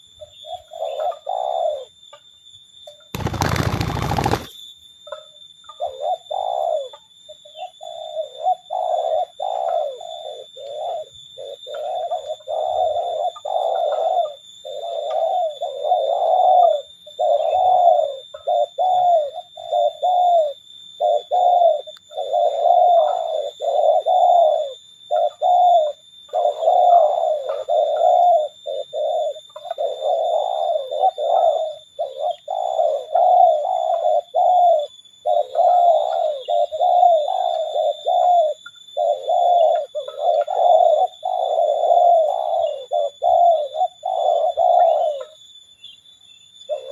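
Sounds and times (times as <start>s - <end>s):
doves cooing: 0.0s - 2.0s, 3.2s - 4.5s, 5.8s - 7.0s, 7.8s - 45.4s, 46.6s - 46.9s.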